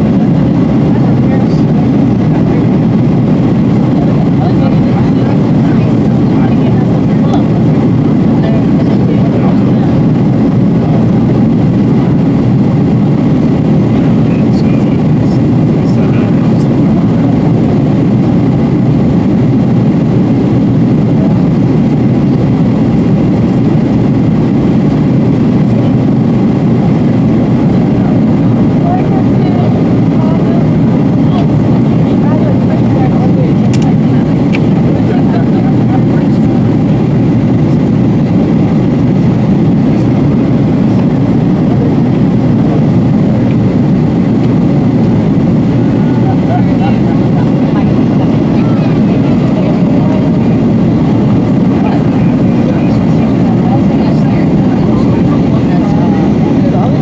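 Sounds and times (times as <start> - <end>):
airflow over fuselage: 0.0 - 57.0
jet engines roaring: 0.0 - 57.0.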